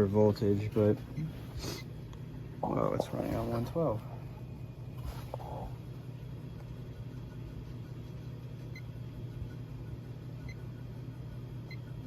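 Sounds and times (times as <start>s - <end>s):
ceiling fan motor hum: 0.0s - 12.0s.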